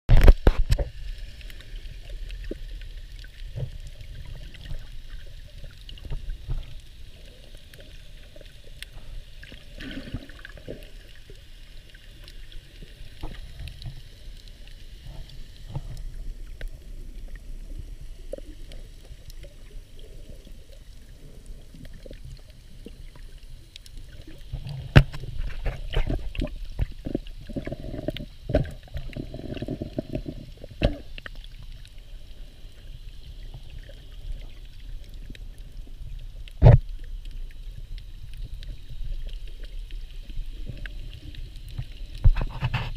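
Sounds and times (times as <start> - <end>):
faint underwater clicks: 0.1 - 42.9
muffled underwater rumble: 0.1 - 42.9
water splashing: 0.1 - 42.9.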